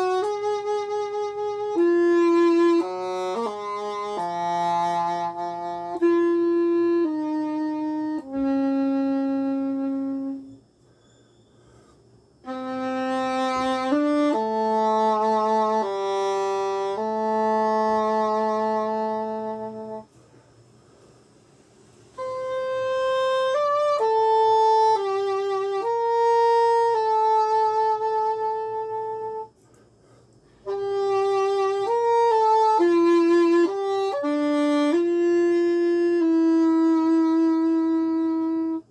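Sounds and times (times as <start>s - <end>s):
english horn slow melody: 0.0s - 21.0s, 22.0s - 38.9s.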